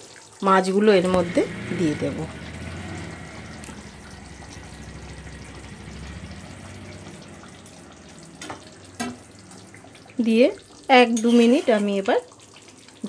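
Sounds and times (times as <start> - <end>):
gravy simmering and bubbling: 0.0 - 13.0.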